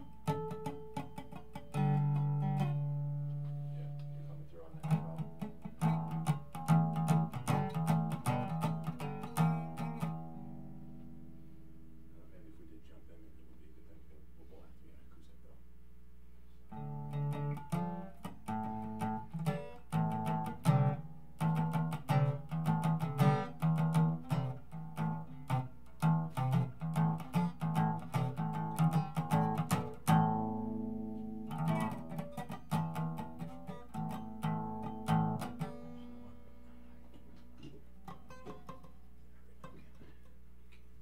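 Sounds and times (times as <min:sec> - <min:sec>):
guitar strumming chords: 0:00.0 - 0:12.5, 0:16.7 - 0:41.0.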